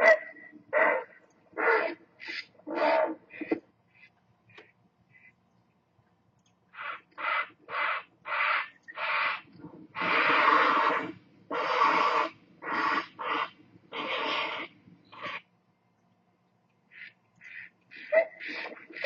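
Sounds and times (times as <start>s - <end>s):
harsh bird calls: 0.0s - 5.4s, 6.7s - 15.5s, 16.9s - 19.0s.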